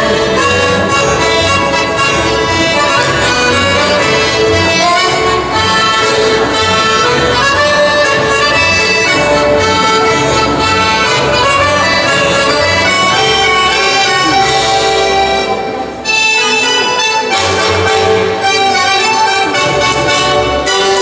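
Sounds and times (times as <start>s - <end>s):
double bass beat: 0.0s - 21.0s
folk dance tune by small band: 0.0s - 21.0s.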